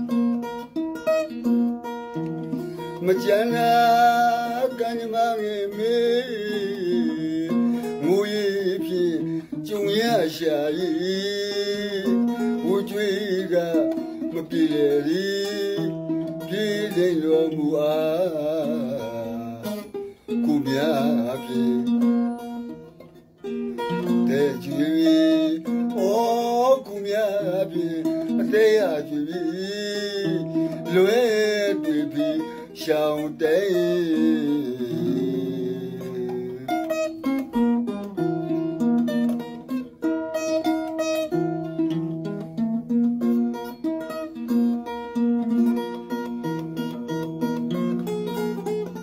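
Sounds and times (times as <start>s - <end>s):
plucked string accompaniment: 0.0s - 49.0s
man singing with vibrato: 2.2s - 42.8s.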